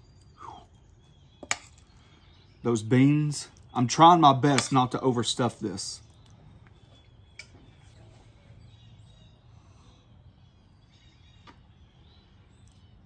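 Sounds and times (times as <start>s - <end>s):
faint bird chirps: 0.0s - 4.8s, 5.5s - 13.0s.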